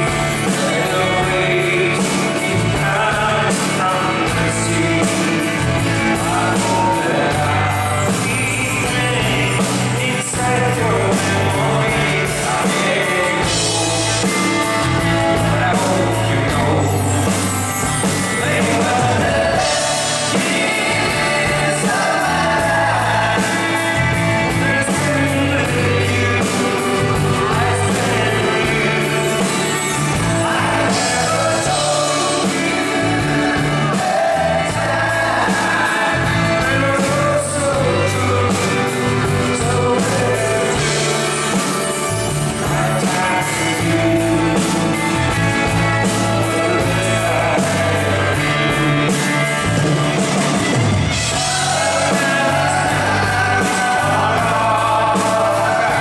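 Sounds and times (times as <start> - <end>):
person singing: 0.0 - 56.0
pop-rock band playing: 0.0 - 56.0.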